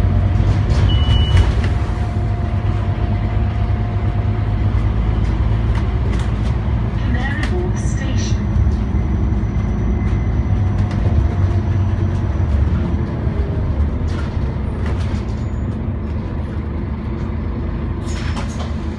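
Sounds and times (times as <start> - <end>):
bus engine rumble: 0.0 - 18.9.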